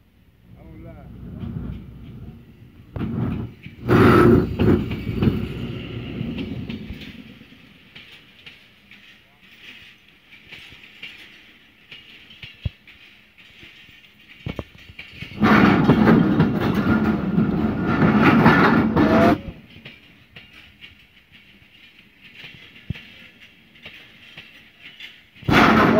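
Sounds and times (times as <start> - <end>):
train wheels rumbling on rails: 0.0 - 25.9.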